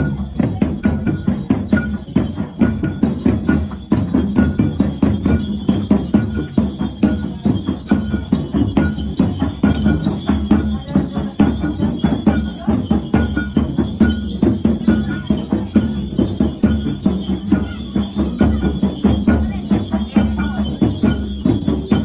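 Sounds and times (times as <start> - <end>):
percussion with jingling bells: 0.0 - 22.0.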